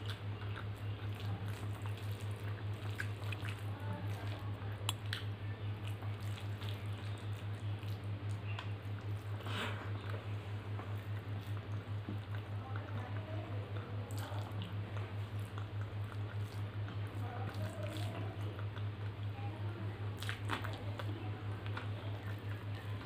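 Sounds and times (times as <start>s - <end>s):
mouth-full chewing: 0.0s - 23.0s
wet squishes of food mixing: 0.0s - 23.0s.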